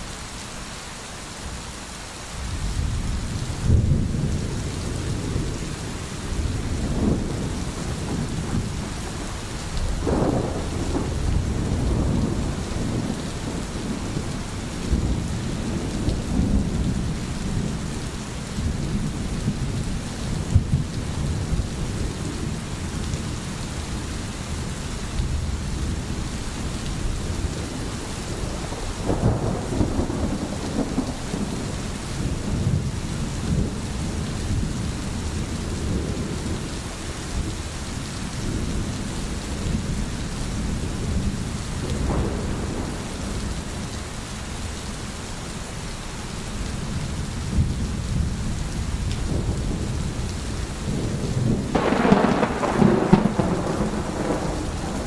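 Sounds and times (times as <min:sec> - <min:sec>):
steady rain falling: 0:00.0 - 0:55.0
thunder rumbling: 0:02.8 - 0:24.0, 0:25.2 - 0:37.6, 0:38.4 - 0:44.2, 0:46.9 - 0:55.0.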